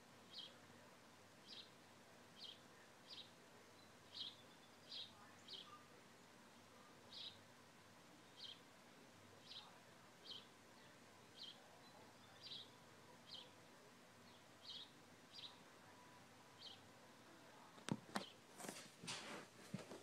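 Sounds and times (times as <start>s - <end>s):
faint steady hiss: 0.0s - 20.0s
bird chirping: 0.2s - 18.5s.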